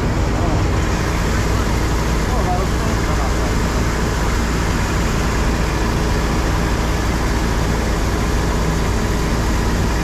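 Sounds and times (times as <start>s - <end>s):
combine harvester running: 0.0s - 10.0s.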